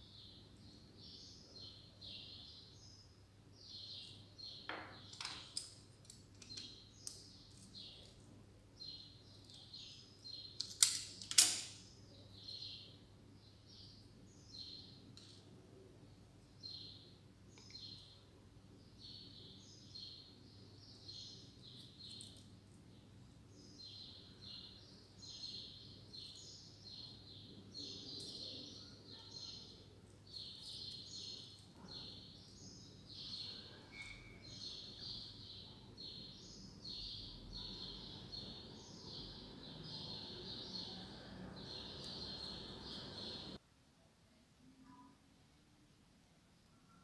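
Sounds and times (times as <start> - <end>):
small bird chirping: 0.0 - 10.9, 11.9 - 15.9, 16.5 - 43.6.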